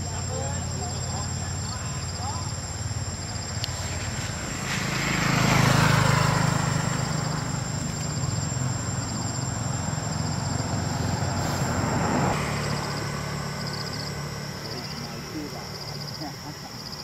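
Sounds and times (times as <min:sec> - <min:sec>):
vehicle passing on road: 0:00.0 - 0:16.9.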